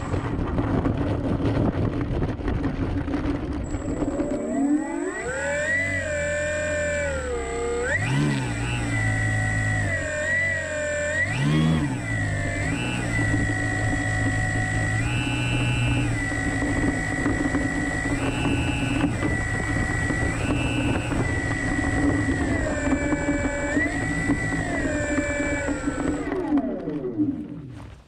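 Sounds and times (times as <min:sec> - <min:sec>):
model plane motor whining: 0:00.0 - 0:27.8.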